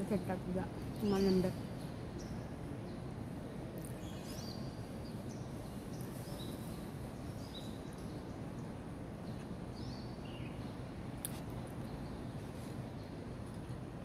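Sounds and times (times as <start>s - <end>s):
small birds chirping: 0.0s - 13.9s
low outdoor hum: 0.0s - 14.0s.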